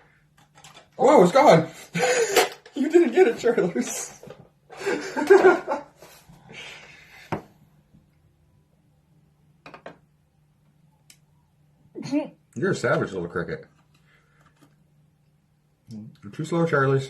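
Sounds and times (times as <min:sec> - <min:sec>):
faint steady low hum: 0:00.0 - 0:17.0.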